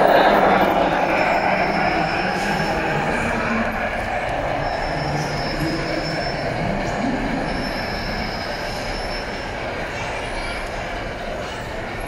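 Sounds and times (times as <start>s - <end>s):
model train running: 0.0s - 12.0s.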